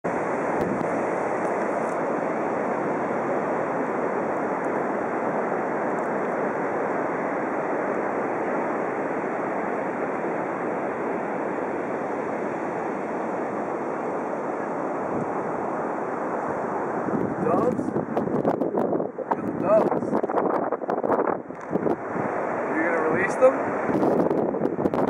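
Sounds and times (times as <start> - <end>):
ocean surf on a beach: 0.1 - 25.0.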